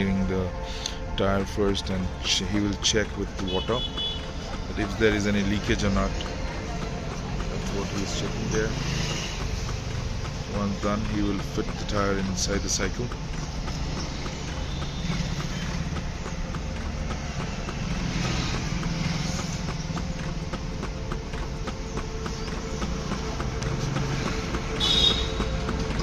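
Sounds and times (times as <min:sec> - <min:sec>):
faint ticking: 0:00.0 - 0:26.0
passing vehicles rumbling: 0:00.0 - 0:26.0.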